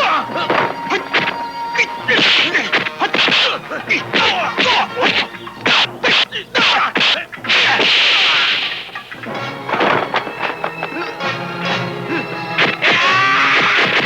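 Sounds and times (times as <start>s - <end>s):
film score music: 0.0s - 14.0s.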